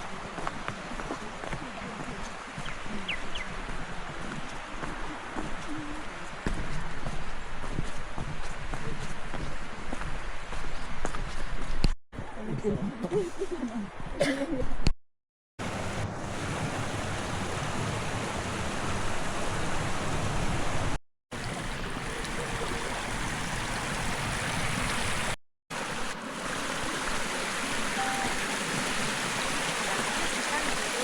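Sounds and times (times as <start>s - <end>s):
stream rushing over rocks: 0.0s - 10.6s, 15.6s - 31.0s.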